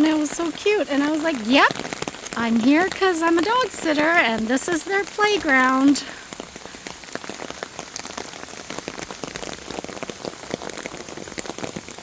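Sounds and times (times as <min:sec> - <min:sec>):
rain falling: 0:00.0 - 0:12.0
raindrops ticking: 0:00.0 - 0:12.0.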